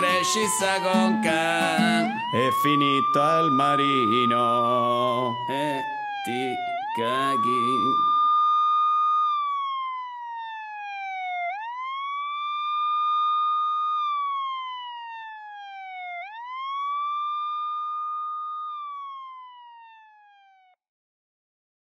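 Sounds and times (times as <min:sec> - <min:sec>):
wailing siren: 0:00.0 - 0:20.8.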